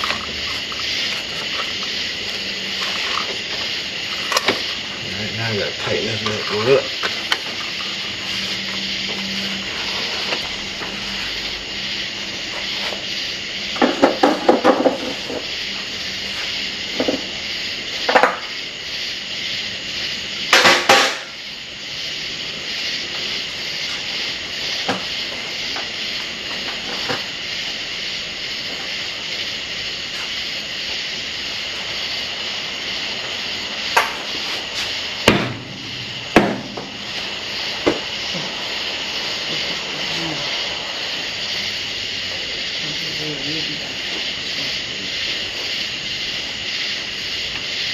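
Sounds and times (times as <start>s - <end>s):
steady high hiss: 0.0s - 47.9s.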